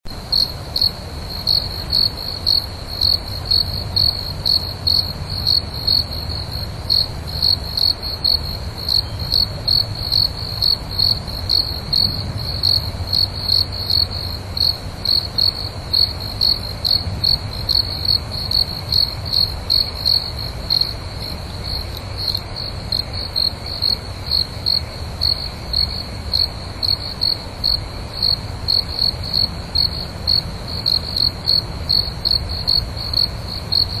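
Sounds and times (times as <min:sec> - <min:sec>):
crickets chirping: 0:00.1 - 0:34.0.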